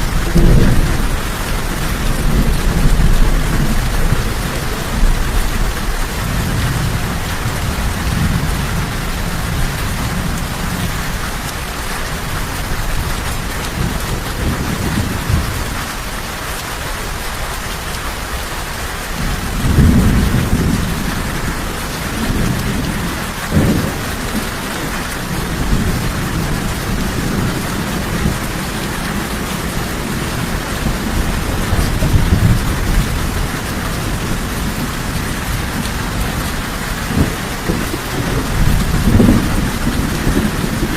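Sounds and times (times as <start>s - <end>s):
thunder rumbling: 0.0s - 16.2s, 19.0s - 40.9s
steady rain: 0.0s - 40.9s.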